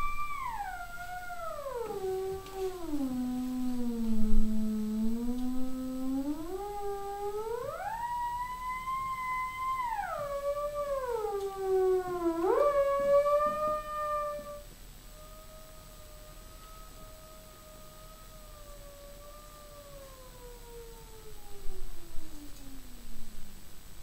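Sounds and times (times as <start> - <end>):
theremin gliding tone: 0.0 - 23.6.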